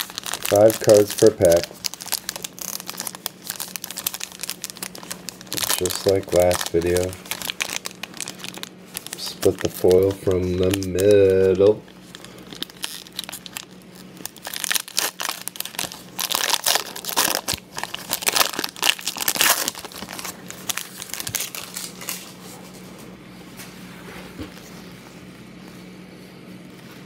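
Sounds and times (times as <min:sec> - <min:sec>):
foil wrapper tearing and crinkling: 0:00.0 - 0:22.4.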